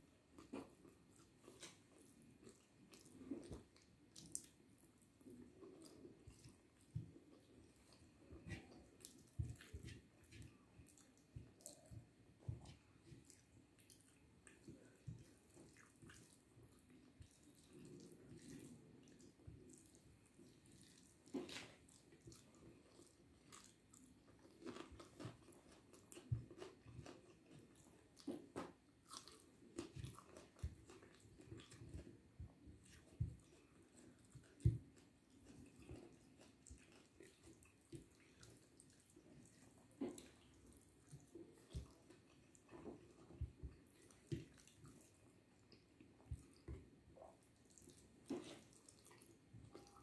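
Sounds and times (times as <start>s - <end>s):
person chewing food: 0.0s - 50.0s.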